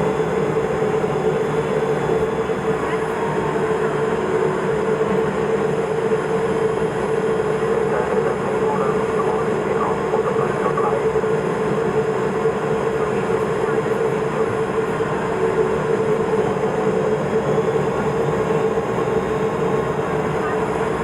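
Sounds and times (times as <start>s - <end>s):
turboprop engine drone: 0.0s - 21.0s.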